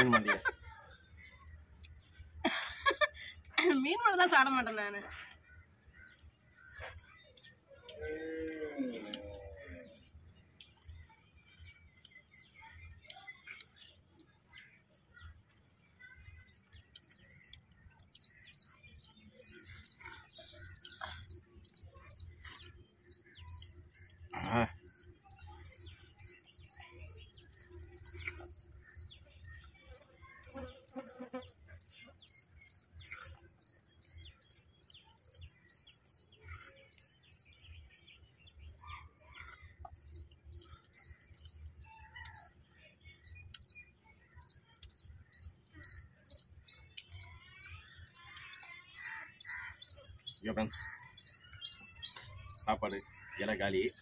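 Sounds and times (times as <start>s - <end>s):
small animal chirping: 5.3s - 37.7s, 38.7s - 54.0s.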